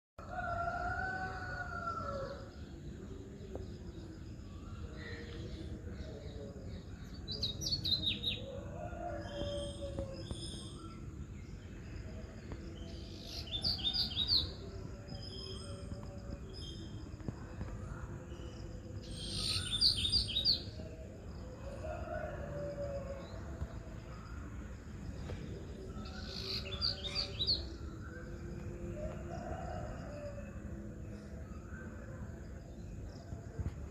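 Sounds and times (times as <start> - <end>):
low background noise: 0.2 - 33.9.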